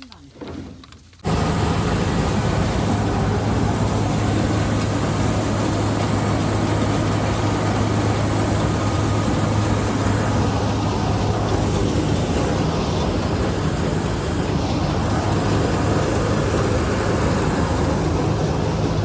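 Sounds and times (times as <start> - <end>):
harvester engine running: 1.2 - 19.0.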